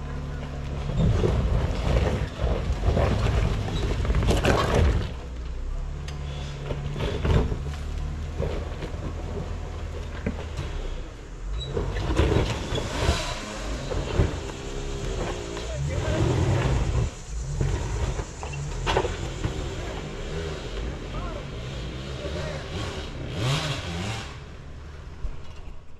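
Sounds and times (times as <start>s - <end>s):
engine pulling up a rocky climb: 0.0s - 25.9s
tires crunching over loose rock: 0.0s - 25.9s.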